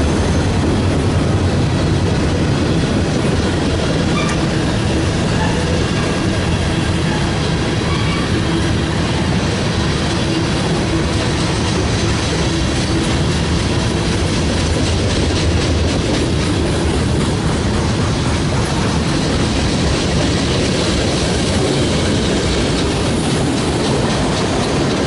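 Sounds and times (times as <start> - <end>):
train wheels rumbling on rails: 0.0 - 25.0
train wheel clicks: 1.6 - 9.1, 9.7 - 25.0.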